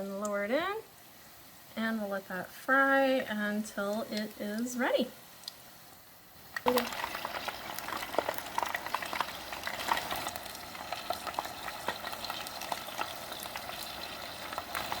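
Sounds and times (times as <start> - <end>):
chicken deep-frying in hot oil: 0.0 - 5.8, 6.4 - 15.0.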